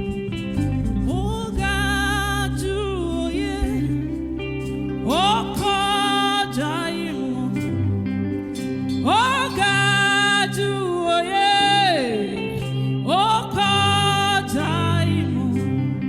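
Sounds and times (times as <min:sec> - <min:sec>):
instrumental backing with bass: 0:00.0 - 0:16.0
person singing gospel: 0:00.0 - 0:16.0.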